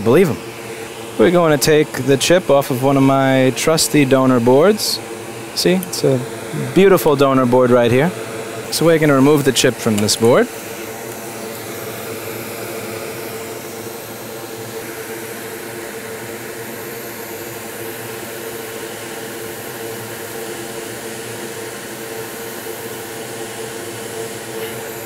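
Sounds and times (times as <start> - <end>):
air blower whooshing: 0.0 - 25.0.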